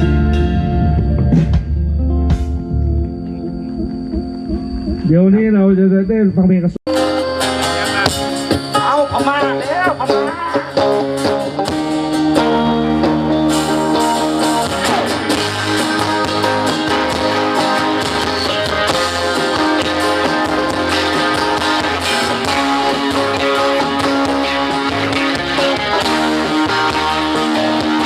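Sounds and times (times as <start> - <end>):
live band with electric guitar: 0.0 - 5.1, 6.9 - 28.0.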